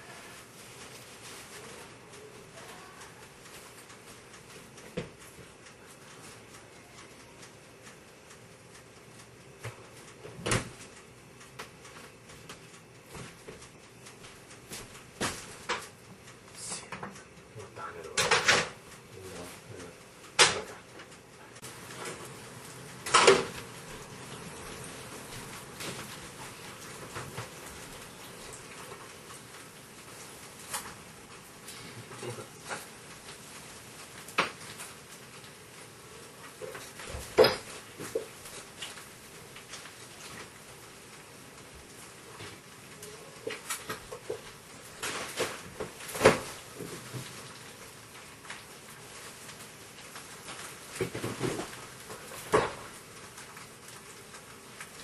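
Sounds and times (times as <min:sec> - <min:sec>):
faint clicks and taps: 0:00.4 - 0:55.0.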